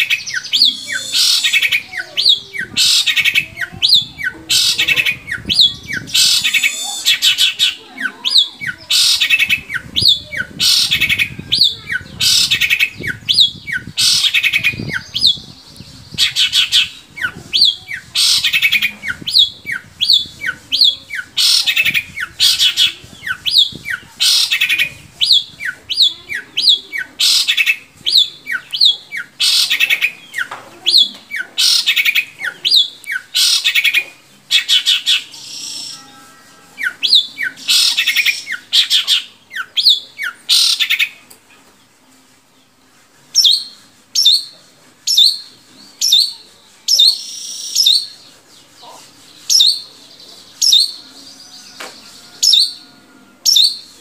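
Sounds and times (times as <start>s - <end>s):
shrike singing harsh chatter: 0.0s - 54.0s.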